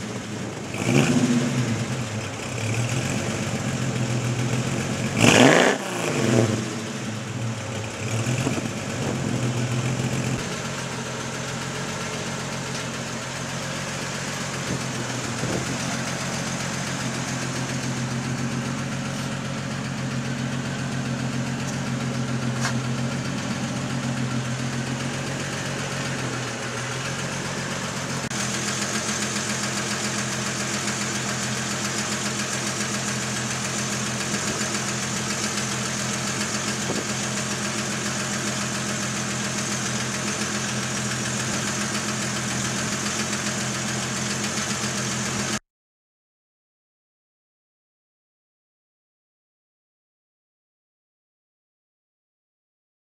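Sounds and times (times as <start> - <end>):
car engine idling: 0.0 - 45.6
engine revving: 0.0 - 45.6.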